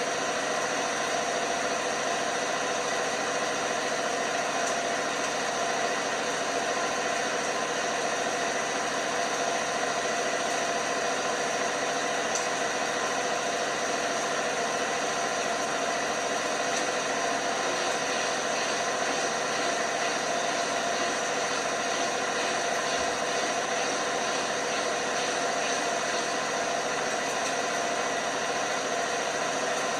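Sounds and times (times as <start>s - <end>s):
washing machine humming: 0.0s - 29.9s.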